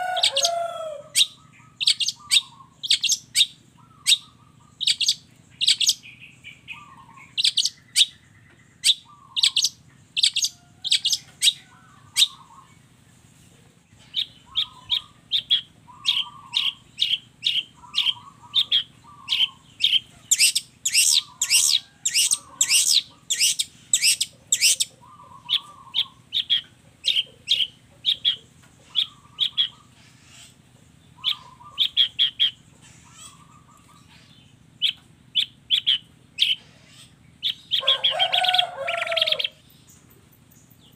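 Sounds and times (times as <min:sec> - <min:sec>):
bird chirping and warbling: 0:00.0 - 0:13.2, 0:13.9 - 0:40.9.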